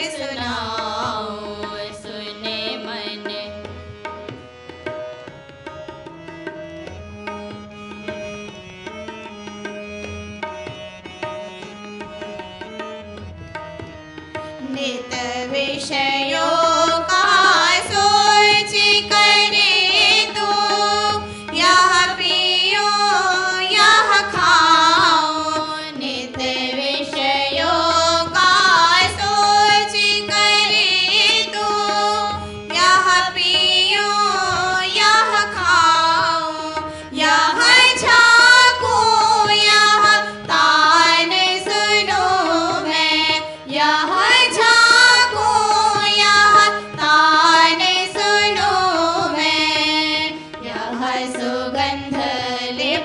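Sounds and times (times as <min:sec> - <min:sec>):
women singing devotional song: 0:00.0 - 0:05.4, 0:14.2 - 0:53.0
harmonium: 0:00.0 - 0:53.0
tabla: 0:00.0 - 0:53.0.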